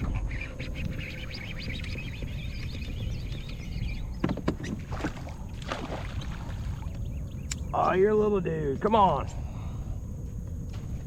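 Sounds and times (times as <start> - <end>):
water and hull rumble: 0.0 - 11.0.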